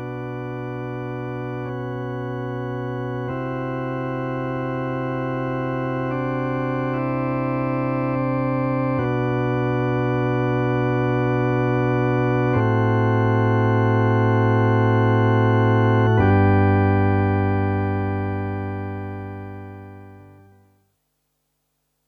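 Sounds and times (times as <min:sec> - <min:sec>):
held organ chords: 0:00.0 - 0:20.8.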